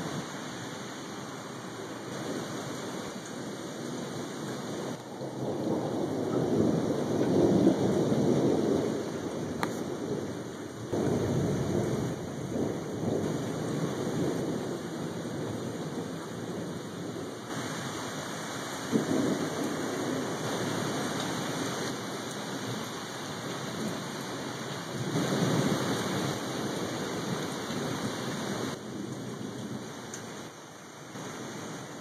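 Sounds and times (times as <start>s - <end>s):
heavy rain: 0.0s - 32.0s
thunder rumbling: 1.3s - 30.6s.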